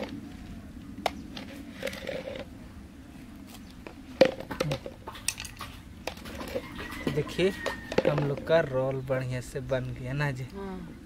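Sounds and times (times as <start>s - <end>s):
clicks and soft rustles of leaves: 0.0s - 10.6s.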